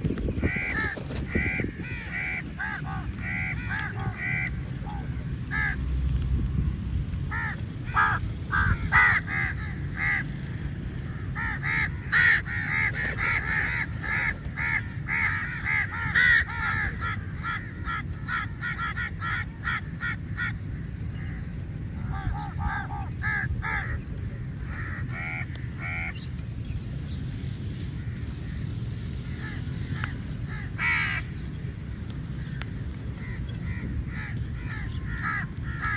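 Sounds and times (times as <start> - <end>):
crows cawing: 0.4 - 5.8, 7.3 - 24.0, 24.6 - 26.2, 29.3 - 31.4, 32.4 - 35.9.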